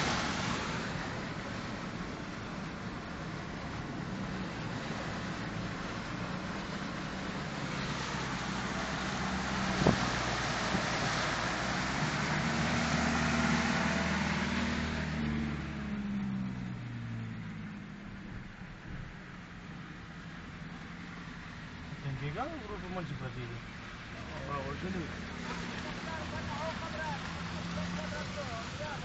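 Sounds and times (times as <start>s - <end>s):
tyres rushing through water: 0.0s - 16.8s, 19.6s - 29.0s
car engine: 0.0s - 29.0s.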